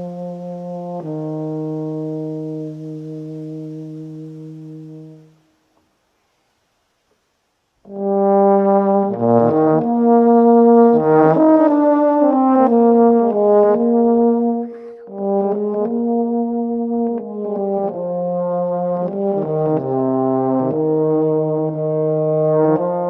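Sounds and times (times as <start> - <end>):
brass ensemble playing chords: 0.0 - 5.4, 7.9 - 23.0.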